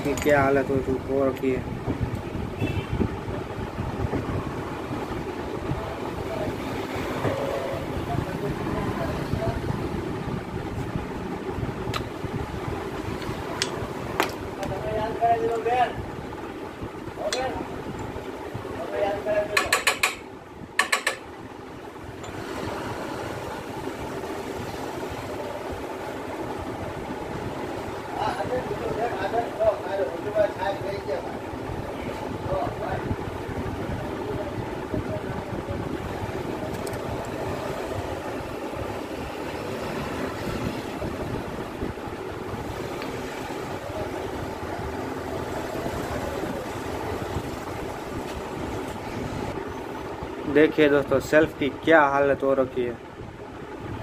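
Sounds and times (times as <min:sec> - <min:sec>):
low mechanical rumble: 0:00.0 - 0:54.0.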